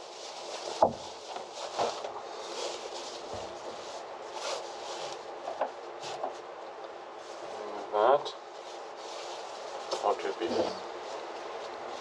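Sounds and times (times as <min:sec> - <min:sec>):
fabric rustling: 0:00.0 - 0:07.7, 0:08.4 - 0:12.0
steady background hiss: 0:00.0 - 0:12.0.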